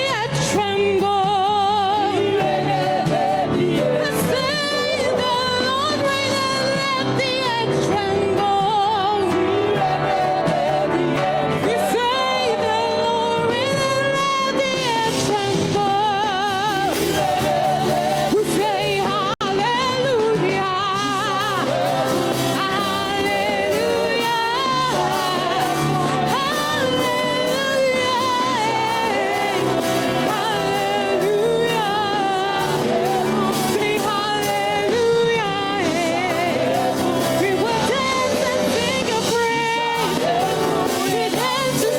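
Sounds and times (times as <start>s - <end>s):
instrumental accompaniment: 0.0s - 41.9s
voices singing with vibrato: 0.0s - 41.9s.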